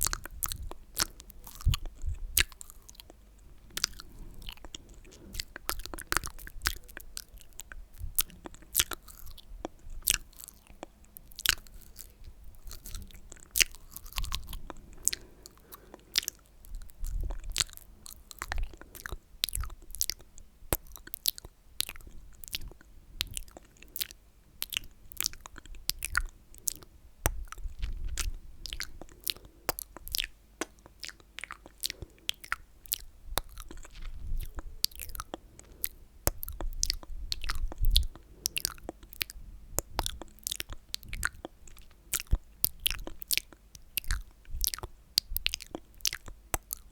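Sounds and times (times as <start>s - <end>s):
lip and tongue clicks: 0.0s - 46.9s.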